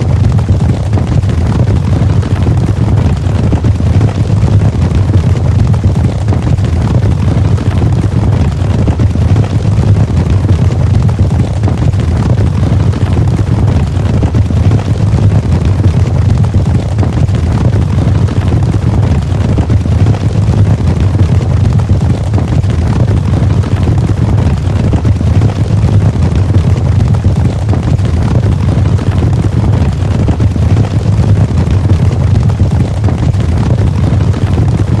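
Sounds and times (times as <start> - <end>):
horses galloping: 0.0 - 35.0.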